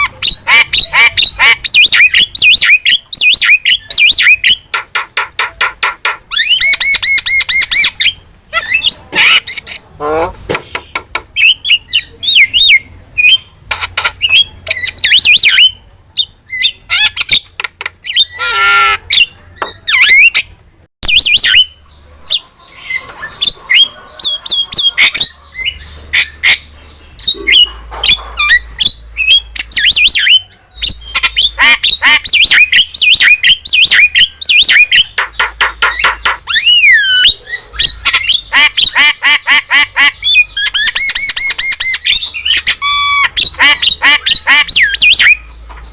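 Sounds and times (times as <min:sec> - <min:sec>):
starling singing: 0:00.0 - 0:45.9.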